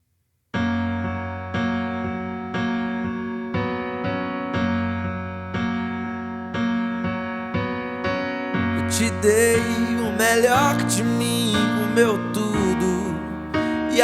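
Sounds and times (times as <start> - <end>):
sustained keyboard chords: 0.6 - 14.0.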